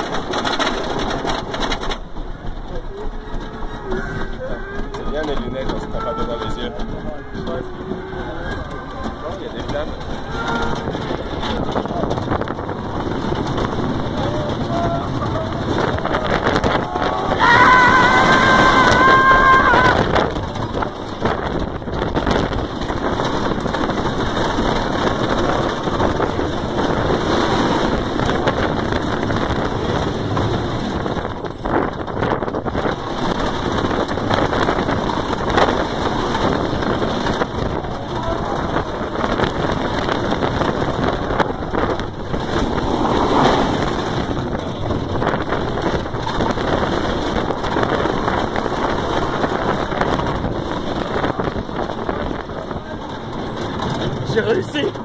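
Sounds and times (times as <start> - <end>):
roller coaster running on wooden track: 0.0 - 55.0
wind rushing over microphone: 0.0 - 55.0.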